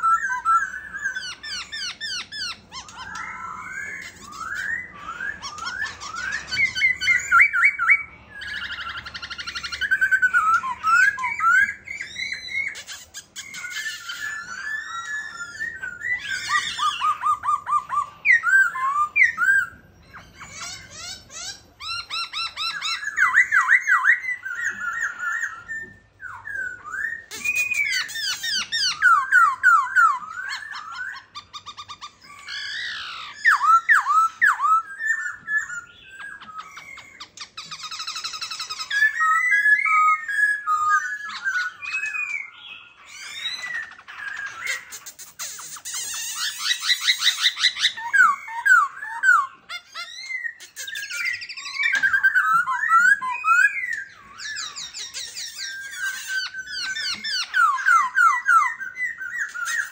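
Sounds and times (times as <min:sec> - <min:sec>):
bird singing whistled song: 0:00.0 - 0:59.9.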